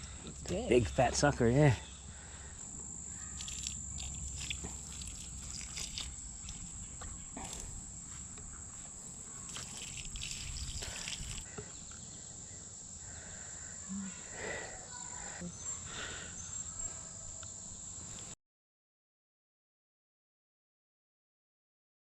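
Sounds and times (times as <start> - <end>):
insects trilling: 0.0 - 18.4.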